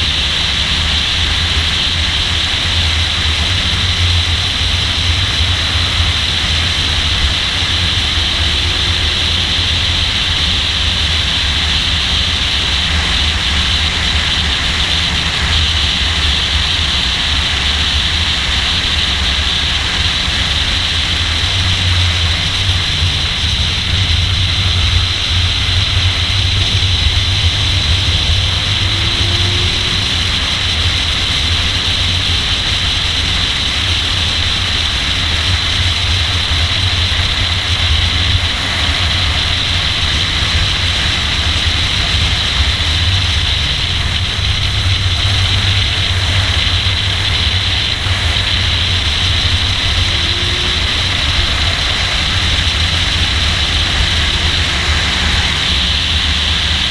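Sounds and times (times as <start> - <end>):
car engine tyre and wind noise: 0.0 - 56.9.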